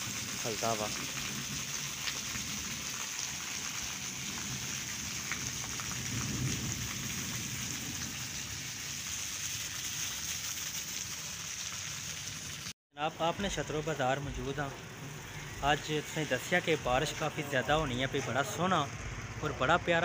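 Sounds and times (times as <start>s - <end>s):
heavy rain pouring: 0.0s - 12.7s, 13.4s - 20.0s.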